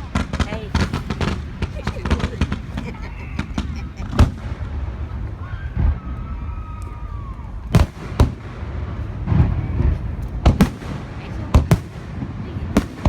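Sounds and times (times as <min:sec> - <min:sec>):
firework bangs: 0:00.0 - 0:13.0
low rumble of bursts: 0:00.0 - 0:13.0.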